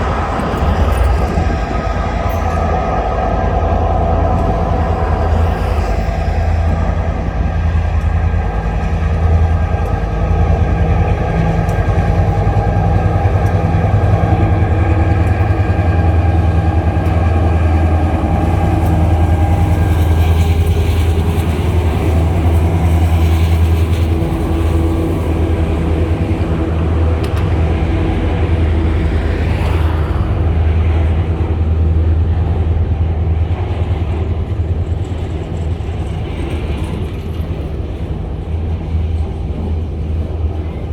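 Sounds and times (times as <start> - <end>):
locomotive engines droning: 0.0 - 40.9.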